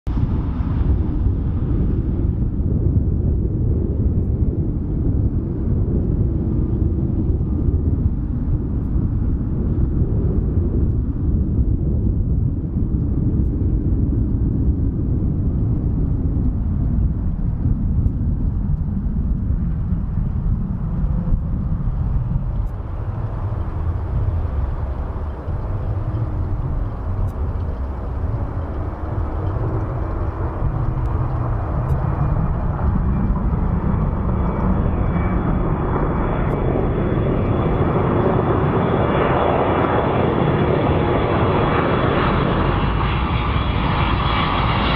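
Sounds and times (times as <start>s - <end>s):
jet engines low rumble: 0.0s - 44.9s
faint jet engine whine: 0.1s - 44.9s.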